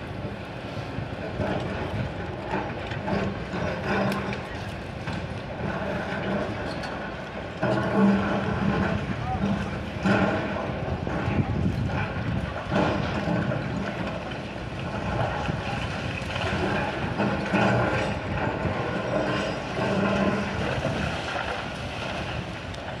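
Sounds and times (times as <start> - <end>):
excavator diesel engine working: 1.2 - 23.0.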